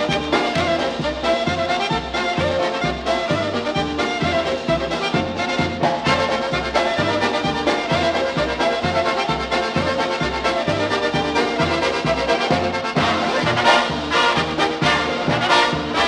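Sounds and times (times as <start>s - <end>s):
polka band playing: 0.0s - 16.0s
repeating bass line: 0.0s - 16.0s.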